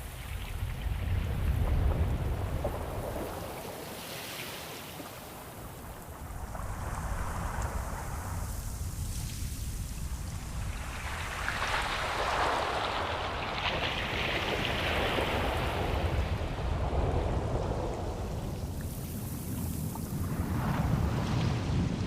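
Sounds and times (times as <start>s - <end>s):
ocean waves on shore: 0.0s - 22.0s.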